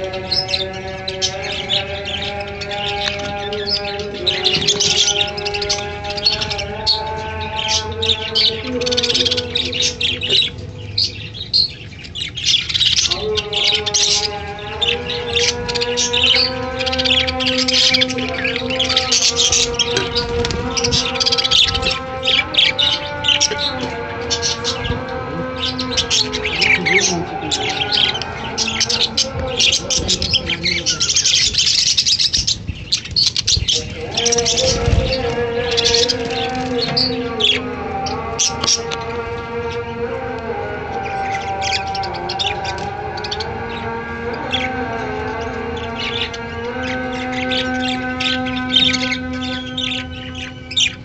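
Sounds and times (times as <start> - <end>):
budgerigars chattering: 0.0 - 51.0.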